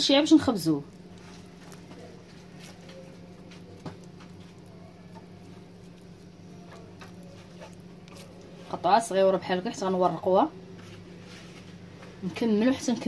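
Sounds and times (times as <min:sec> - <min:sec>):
dough squelching and clicking: 0:00.0 - 0:13.0
steady low hum: 0:00.0 - 0:13.0.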